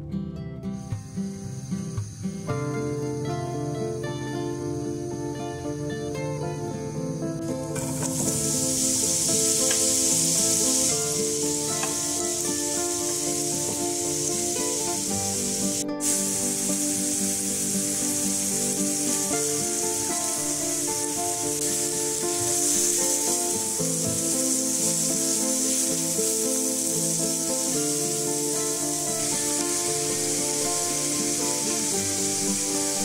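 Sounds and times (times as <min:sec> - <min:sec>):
background music sustained notes: 0:00.0 - 0:33.0
food sizzling in frying pan: 0:05.6 - 0:33.0.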